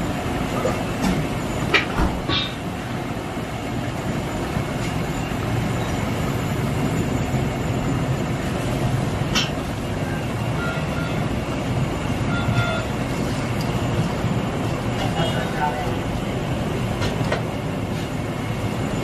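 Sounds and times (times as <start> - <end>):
stove roaring: 0.0 - 19.0.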